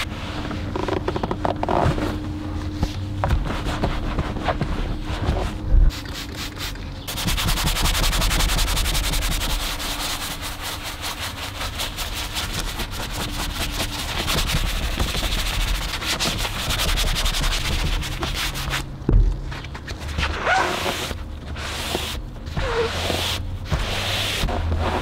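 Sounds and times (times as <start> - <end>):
brush scrubbing vinyl: 0.0 - 18.9, 19.5 - 25.0.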